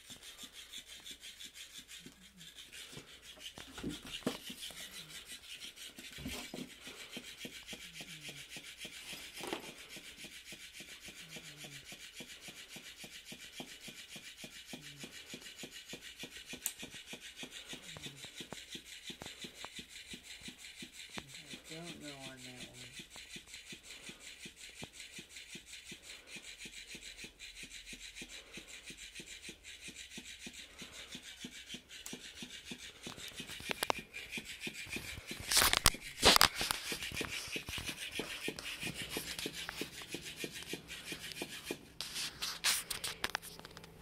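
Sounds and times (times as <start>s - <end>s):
toy fish flapping on carpet: 0.0s - 44.0s.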